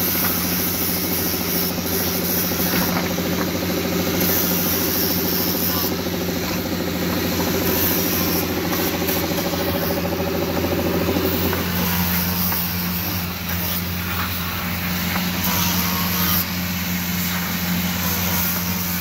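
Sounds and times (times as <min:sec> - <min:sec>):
grinder sanding brake pads: 0:00.0 - 0:19.0.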